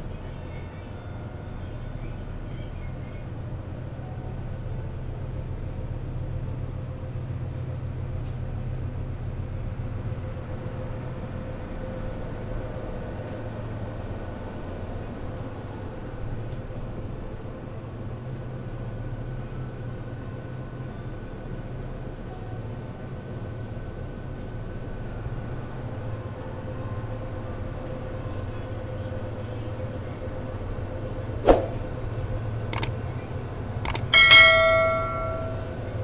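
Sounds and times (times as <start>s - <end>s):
low mechanical rumble: 0.0s - 36.0s.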